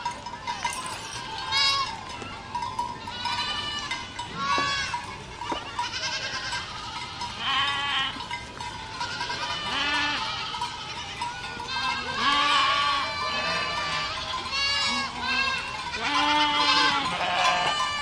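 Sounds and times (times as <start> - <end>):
goats bleating: 0.6 - 2.2, 3.0 - 8.3, 8.9 - 18.0.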